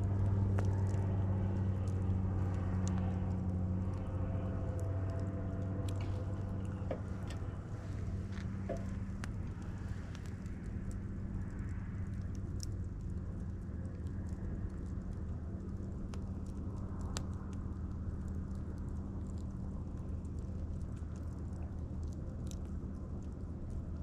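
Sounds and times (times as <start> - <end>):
campfire crackling and popping: 0.0 - 24.0
steady low hum: 0.0 - 24.0.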